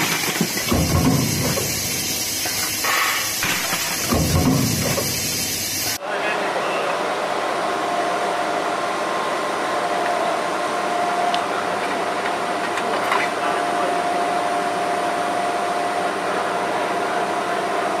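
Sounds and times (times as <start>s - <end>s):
workshop machinery whine: 0.0s - 18.0s.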